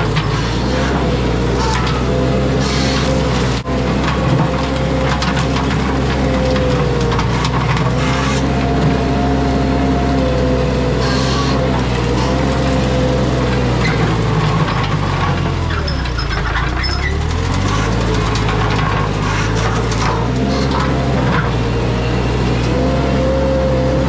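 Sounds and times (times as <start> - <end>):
skid steer engine with whine: 0.0 - 24.0.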